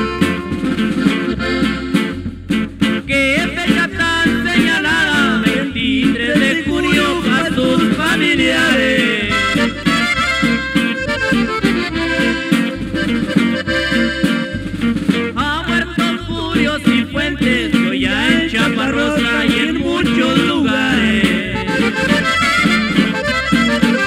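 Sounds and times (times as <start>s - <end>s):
accordion lead playing quick runs: 0.0s - 5.7s, 7.0s - 16.2s, 18.3s - 24.0s
pulsing bass line: 0.0s - 24.0s.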